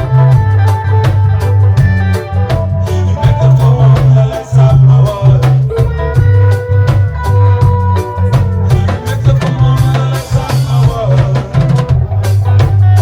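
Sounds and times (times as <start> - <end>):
drum kit beat: 0.0 - 13.0
heavy bass line: 0.0 - 13.0
reggae band playing: 0.0 - 13.0.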